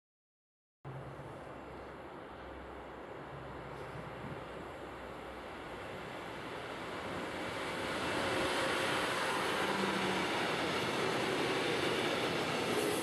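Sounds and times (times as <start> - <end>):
freight train passing: 0.9 - 13.0.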